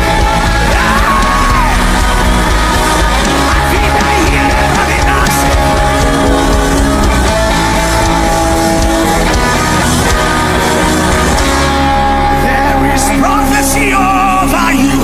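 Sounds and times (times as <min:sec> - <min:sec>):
worship band instrumental music: 0:00.0 - 0:15.0.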